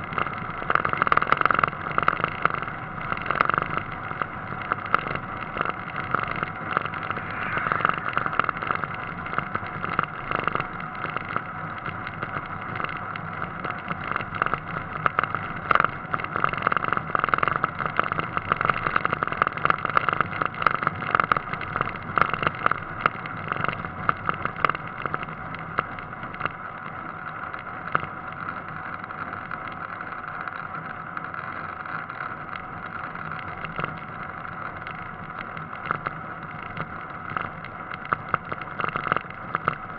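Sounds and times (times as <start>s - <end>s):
car engine tyre and wind noise: 0.0s - 39.9s.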